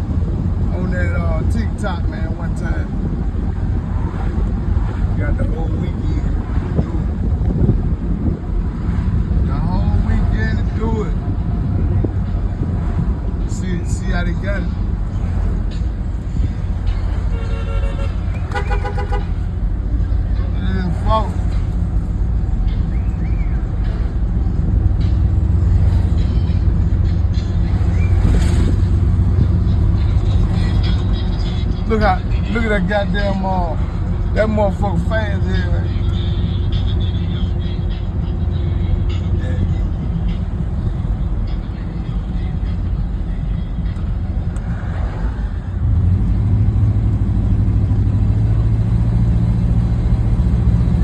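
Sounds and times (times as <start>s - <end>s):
car engines rumbling: 0.0s - 51.0s.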